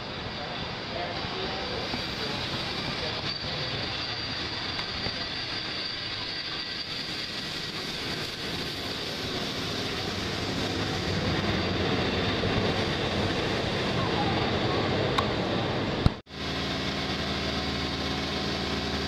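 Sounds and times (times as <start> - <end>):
steam locomotive passing: 0.0 - 19.0.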